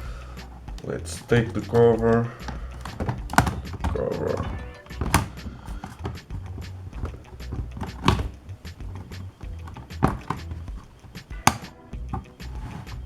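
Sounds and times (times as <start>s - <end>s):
plastic casing clicks and knocks: 0.5s - 13.0s.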